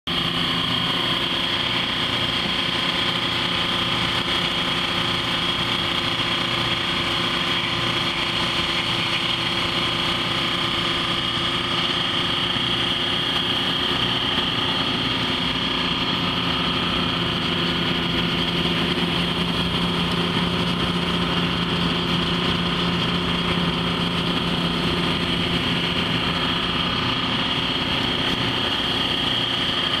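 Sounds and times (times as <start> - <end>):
engine running with high whine: 0.0 - 30.0.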